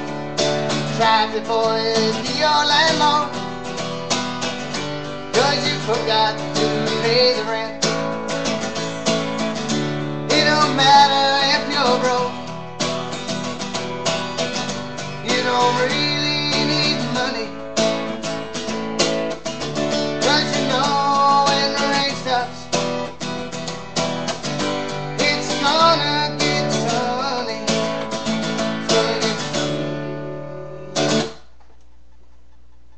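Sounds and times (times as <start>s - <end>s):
acoustic guitar strumming: 0.0s - 31.6s.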